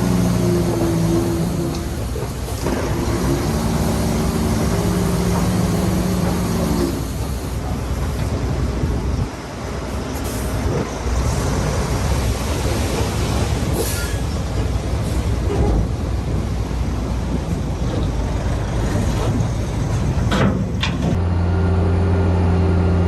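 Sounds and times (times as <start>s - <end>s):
diesel machinery engine rumbling: 0.0s - 23.0s.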